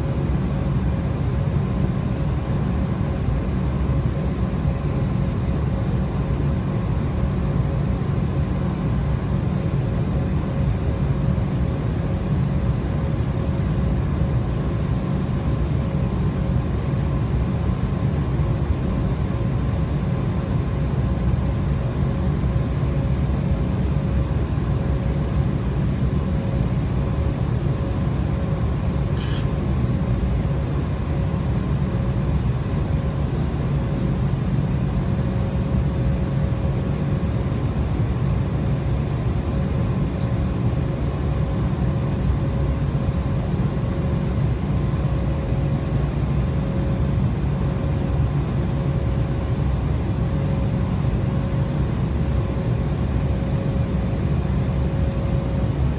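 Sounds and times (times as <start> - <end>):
airliner cabin engine hum: 0.0 - 55.9.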